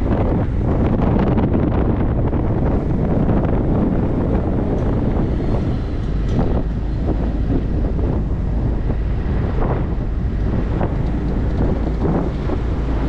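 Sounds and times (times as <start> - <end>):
road noise: 0.0 - 13.0
wind noise on microphone: 0.0 - 13.0.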